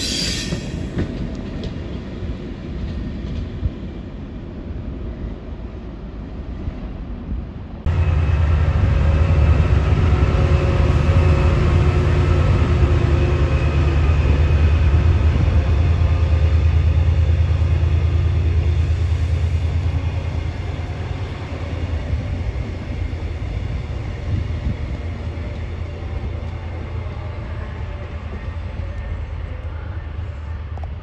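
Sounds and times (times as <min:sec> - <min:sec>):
diesel locomotive engine drone: 0:00.0 - 0:31.0
train wheels rumbling on track: 0:00.0 - 0:31.0.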